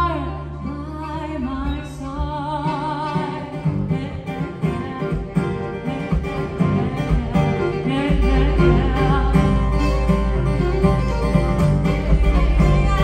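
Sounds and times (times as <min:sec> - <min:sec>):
woman singing: 0:00.0 - 0:10.7, 0:11.9 - 0:13.0
acoustic guitar: 0:00.0 - 0:13.0
fiddle: 0:00.0 - 0:13.0
upright double bass: 0:00.0 - 0:13.0.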